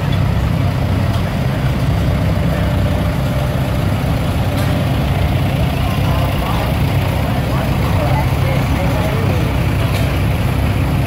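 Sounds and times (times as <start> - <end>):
tractor engines rumbling: 0.0 - 11.0.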